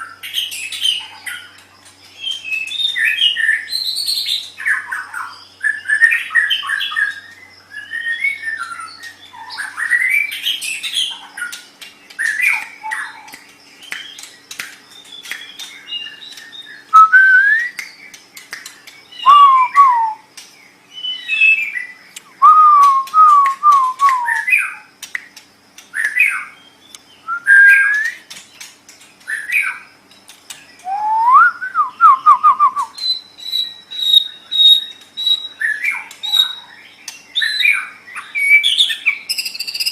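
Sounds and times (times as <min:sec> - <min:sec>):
bird singing whistles and trills: 0:00.0 - 0:25.3, 0:25.9 - 0:29.9, 0:30.5 - 0:39.9.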